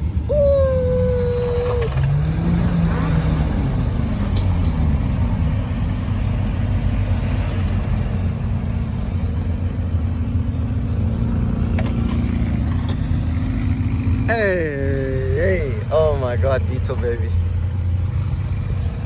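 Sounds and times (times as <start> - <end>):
car engine idling low: 0.0 - 17.9.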